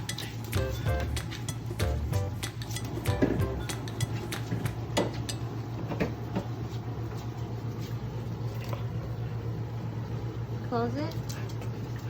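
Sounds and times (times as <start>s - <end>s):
refrigerator low hum: 0.0s - 12.0s.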